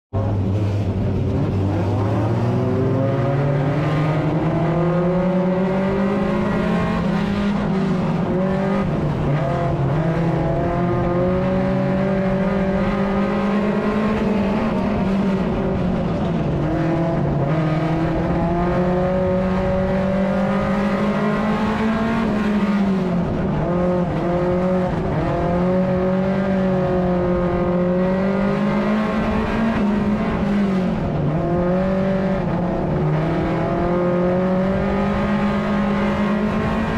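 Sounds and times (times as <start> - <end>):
race car engine revving: 0.2 - 36.9.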